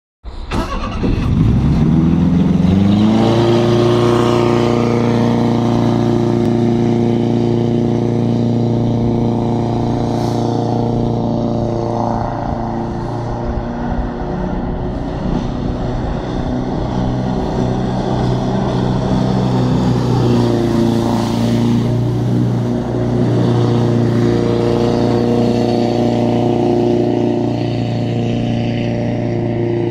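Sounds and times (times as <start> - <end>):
boat engine revving: 0.4 - 29.9.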